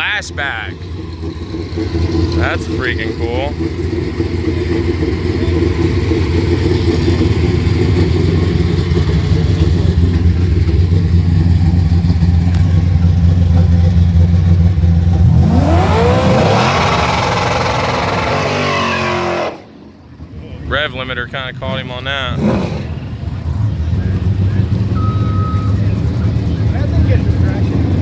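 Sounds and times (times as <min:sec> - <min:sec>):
car engine at high revs: 0:00.0 - 0:28.0.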